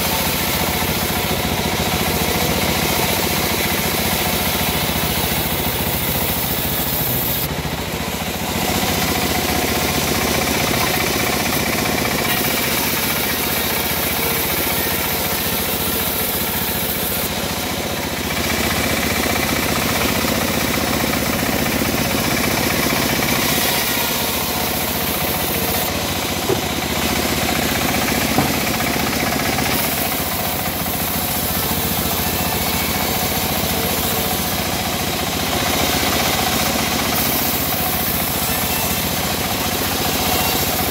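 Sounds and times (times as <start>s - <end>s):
bandsaw blade sawing wood: 0.0s - 40.9s.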